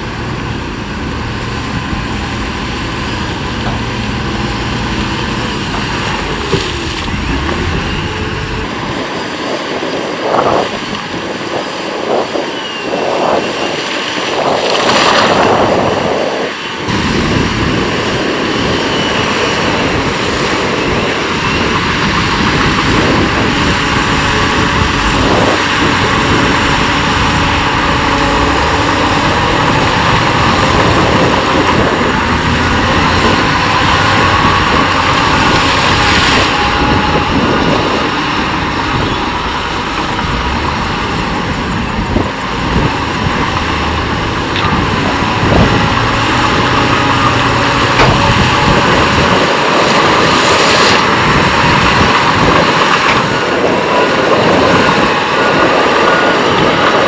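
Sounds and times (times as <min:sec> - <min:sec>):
heavy diesel machinery working: 0:00.0 - 0:57.0.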